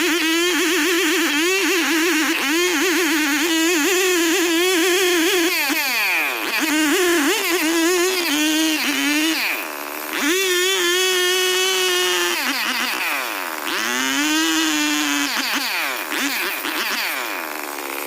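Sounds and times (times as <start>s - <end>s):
chainsaw running at high revs: 0.0s - 18.0s.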